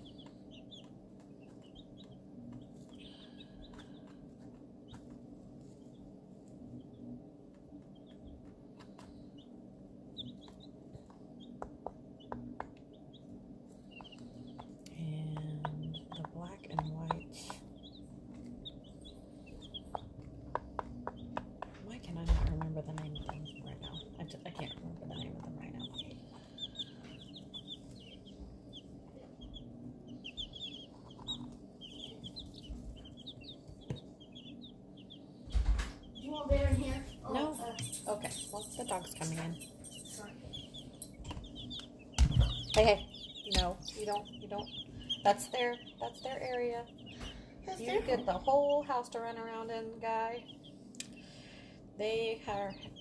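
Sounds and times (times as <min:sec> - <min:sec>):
chicks peeping: 0:00.0 - 0:53.0
steady low hum: 0:00.0 - 0:53.0.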